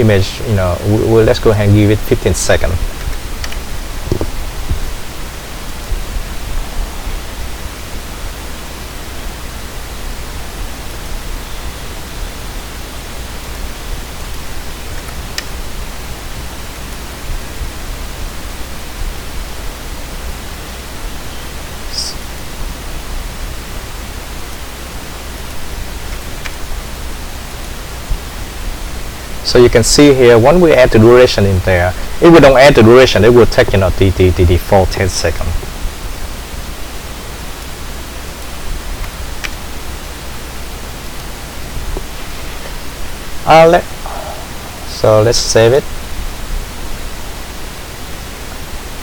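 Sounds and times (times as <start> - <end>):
low electrical hum: 0.0 - 49.0
microphone hiss: 0.0 - 49.0.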